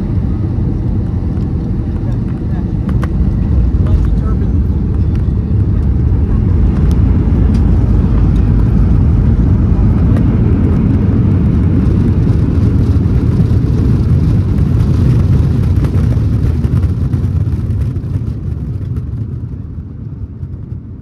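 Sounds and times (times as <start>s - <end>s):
aircraft cabin rumble: 0.0s - 21.0s.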